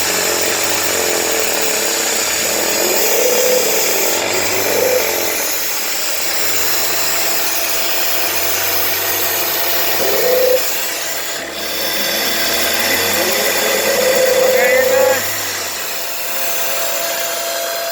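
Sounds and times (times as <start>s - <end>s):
noisy mechanical whir: 0.0s - 17.9s.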